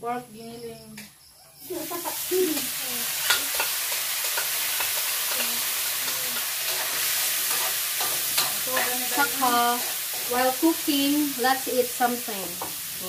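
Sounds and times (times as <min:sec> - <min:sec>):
meat sizzling in oil: 0:01.6 - 0:13.0.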